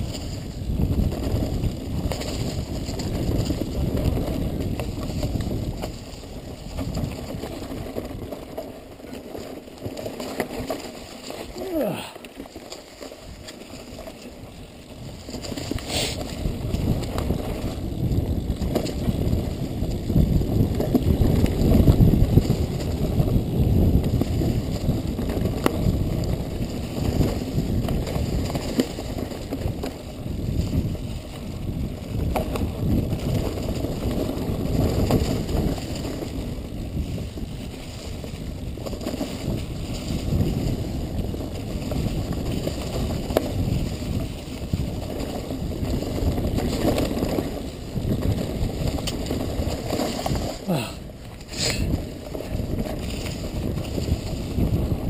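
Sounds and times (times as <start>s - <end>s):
wind buffeting microphone: 0.0s - 12.2s, 12.9s - 55.0s
bike clicks and rattles: 0.0s - 55.0s
tyres rumbling over dirt: 0.0s - 55.0s.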